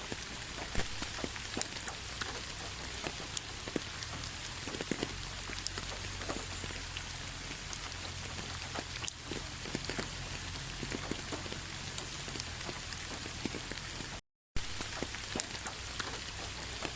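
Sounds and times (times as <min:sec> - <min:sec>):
raindrops tapping on a surface: 0:00.0 - 0:16.9
steady rain: 0:00.0 - 0:16.9.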